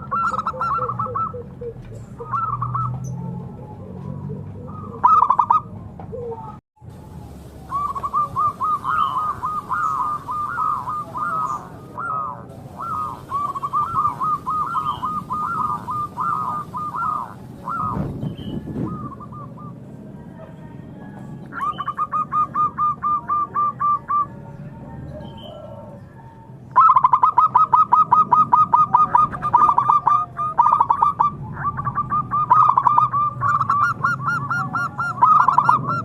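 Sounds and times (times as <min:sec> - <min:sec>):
doves cooing: 0:00.0 - 0:36.0.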